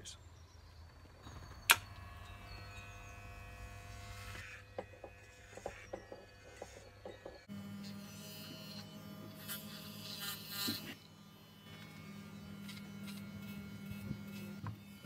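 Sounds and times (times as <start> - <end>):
electric hair clippers buzzing: 1.3 - 15.0.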